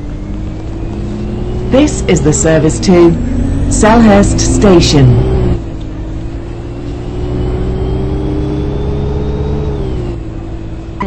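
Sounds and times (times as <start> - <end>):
bus drivetrain low hum: 0.0 - 11.0.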